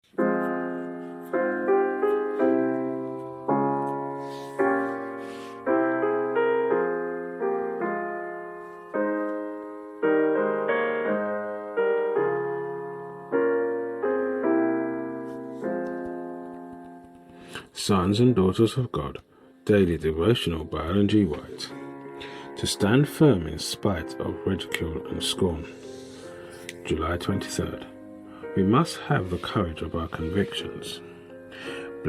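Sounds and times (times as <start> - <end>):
slow solo piano chords: 0.0 - 17.8, 20.6 - 32.0.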